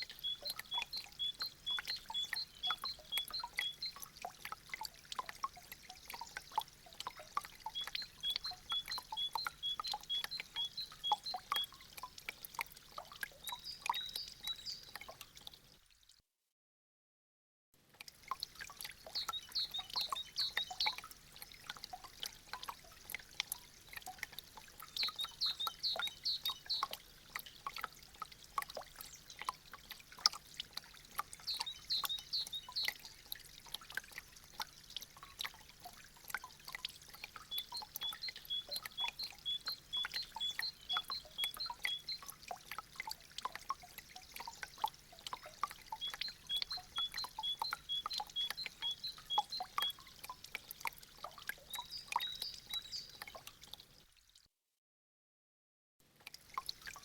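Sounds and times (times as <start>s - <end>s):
meltwater dripping: 0.0s - 16.0s, 17.9s - 54.2s, 56.1s - 57.0s.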